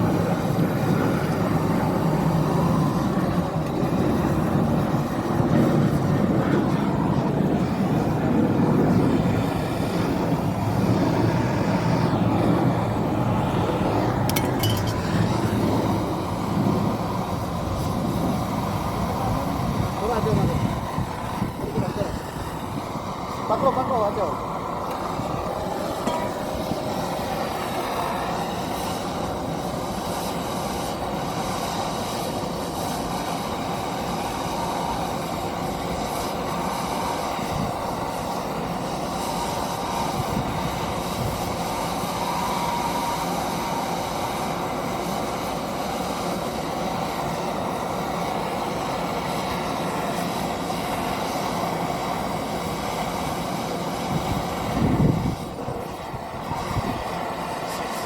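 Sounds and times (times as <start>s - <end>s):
steady machinery noise: 0.0s - 58.0s.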